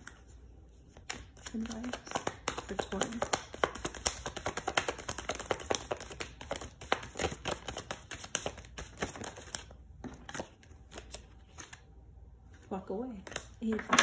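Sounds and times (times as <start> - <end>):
cards being shuffled: 0.0 - 11.8, 12.5 - 14.0.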